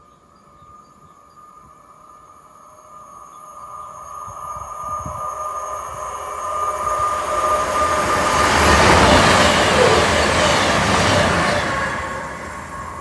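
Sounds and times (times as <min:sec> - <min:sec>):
train rumble and rail noise: 0:00.0 - 0:13.0
steady high whine: 0:01.0 - 0:13.0.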